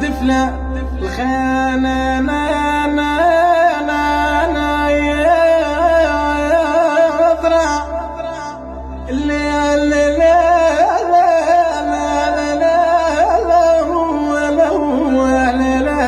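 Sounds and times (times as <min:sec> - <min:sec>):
low drone: 0:00.0 - 0:16.0.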